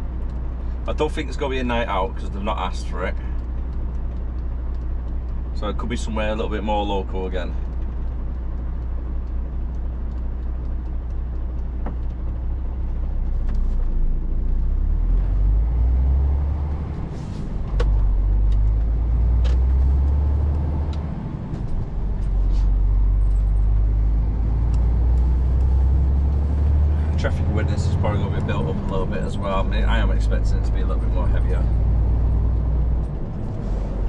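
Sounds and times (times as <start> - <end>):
diesel truck engine: 0.0 - 34.0.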